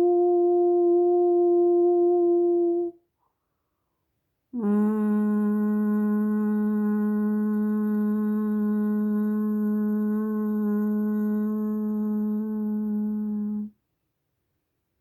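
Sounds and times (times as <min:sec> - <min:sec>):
person humming a long note: 0:00.0 - 0:03.0, 0:04.6 - 0:13.7.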